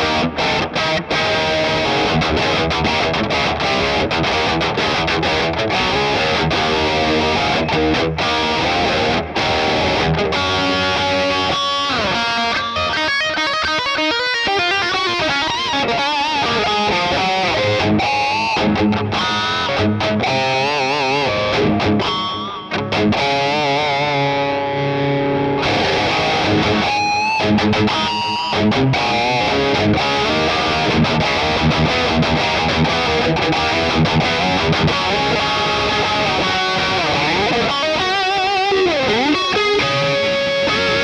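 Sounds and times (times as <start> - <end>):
distorted electric guitar: 0.0 - 41.0.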